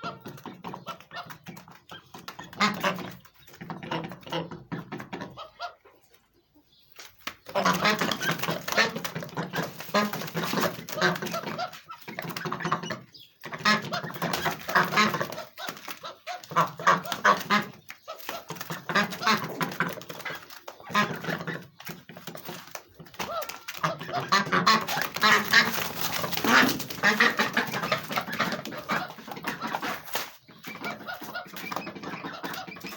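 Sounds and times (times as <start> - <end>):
ducks quacking: 0.0 - 6.6, 7.3 - 32.9.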